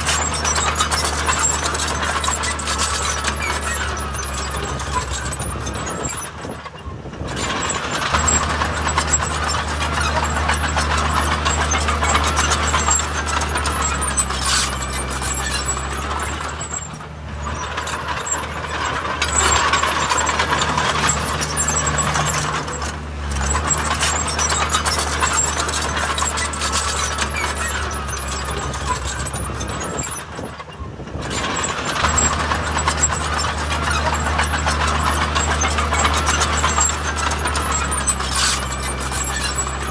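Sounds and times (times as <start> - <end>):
heavy diesel engines under load: 0.0 - 39.9
metallic rattling and clanking: 0.0 - 39.9.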